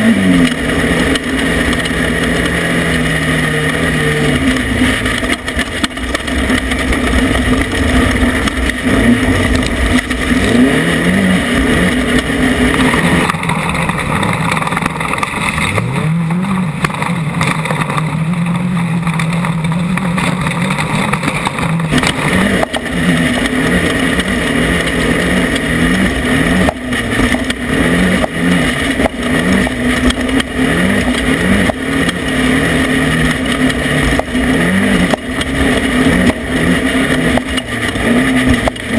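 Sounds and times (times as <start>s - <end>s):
knocks over rough ground: 0.0s - 38.9s
off-road vehicle engine revving: 0.0s - 38.9s.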